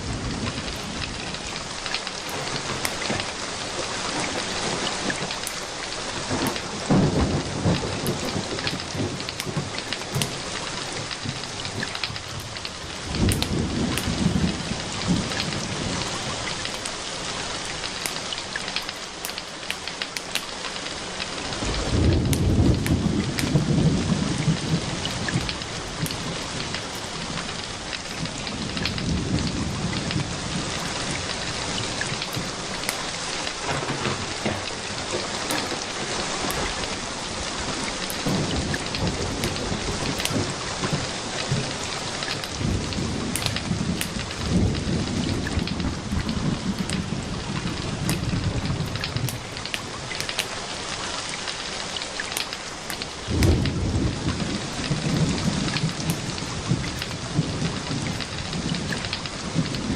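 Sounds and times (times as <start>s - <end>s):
low rolling thunder: 0.0s - 18.6s, 21.3s - 50.2s, 52.9s - 59.9s
steady rain: 0.0s - 59.9s
sharp crackling ticks: 0.5s - 3.4s, 5.0s - 7.0s, 7.6s - 17.0s, 17.7s - 23.7s, 24.4s - 59.9s.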